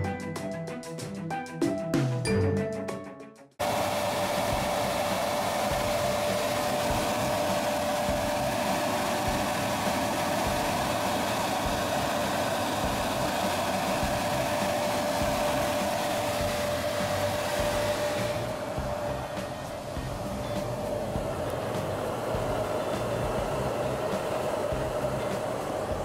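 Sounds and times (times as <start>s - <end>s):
blower rushing air with whine: 3.6s - 26.0s.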